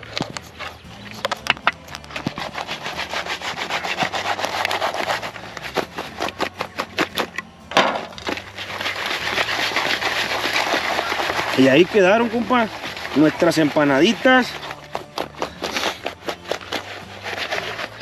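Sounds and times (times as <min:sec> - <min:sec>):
scraping rustle of shaken bowl: 0:00.0 - 0:18.0.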